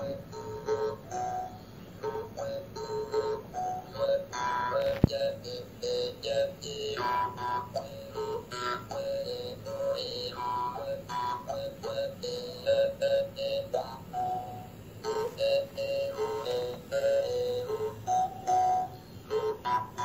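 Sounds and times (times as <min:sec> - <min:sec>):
jaw harp playing slow tune: 0:00.0 - 0:20.0.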